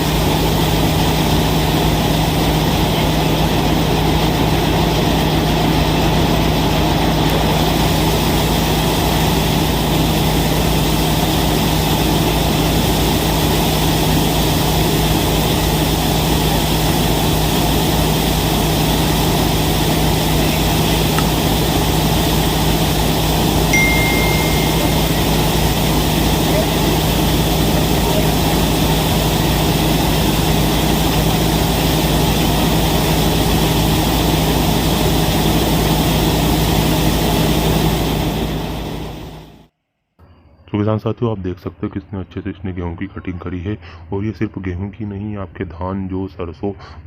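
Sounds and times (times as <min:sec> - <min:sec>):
combine harvester running: 0:00.0 - 0:39.7.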